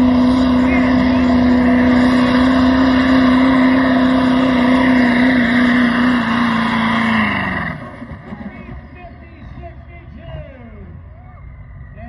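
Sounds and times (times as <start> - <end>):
diesel truck engine at high revs: 0.0 - 11.2.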